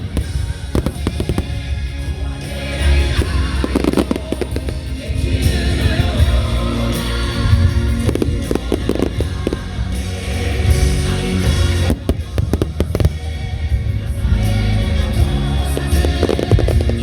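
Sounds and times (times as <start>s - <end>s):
fireworks bursting and crackling: 0.0s - 17.0s
song with singing: 0.0s - 17.0s.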